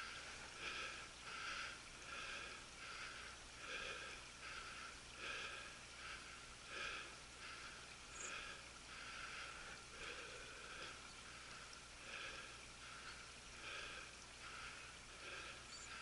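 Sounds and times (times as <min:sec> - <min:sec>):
heavy rhythmic breathing: 0:00.0 - 0:16.0.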